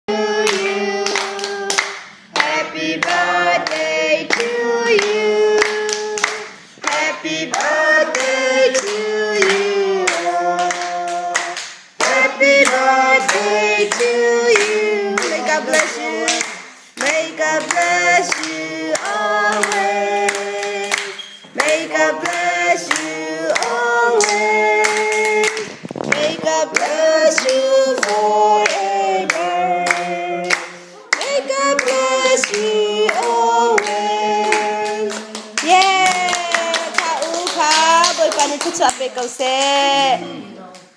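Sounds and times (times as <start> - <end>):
group singing a birthday song: 0.0 - 40.9
people clapping along: 0.1 - 40.9.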